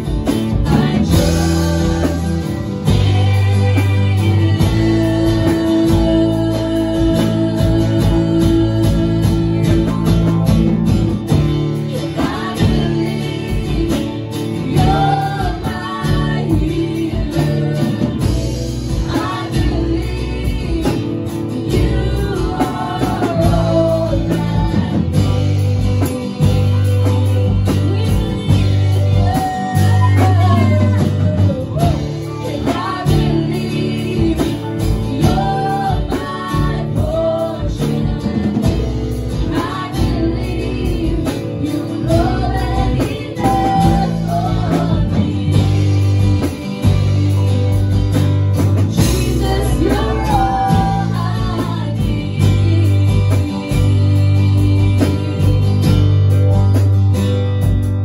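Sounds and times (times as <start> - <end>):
women singing into microphones: 0.0 - 56.4
acoustic and electric guitars: 0.0 - 58.0
drum kit: 0.0 - 58.0.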